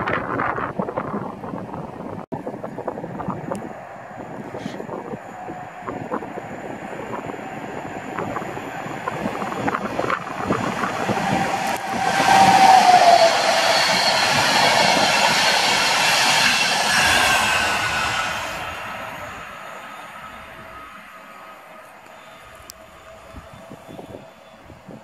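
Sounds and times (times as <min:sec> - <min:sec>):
passenger train passing: 0:00.1 - 0:25.0.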